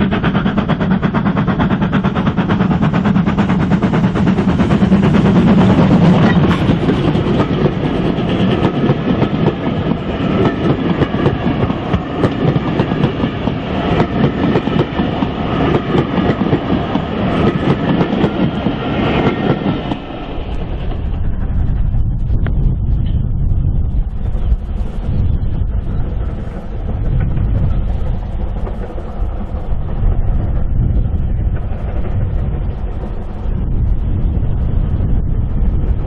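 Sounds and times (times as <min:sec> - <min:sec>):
train wheels clattering over rail joints: 0:00.0 - 0:21.6, 0:25.6 - 0:33.8
steam locomotive passing: 0:00.0 - 0:36.0.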